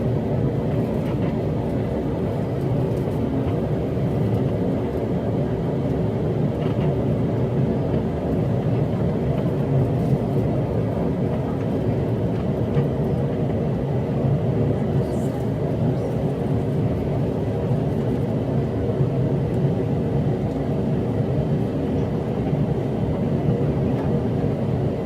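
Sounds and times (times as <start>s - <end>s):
jet engine rumble in cabin: 0.0s - 25.0s.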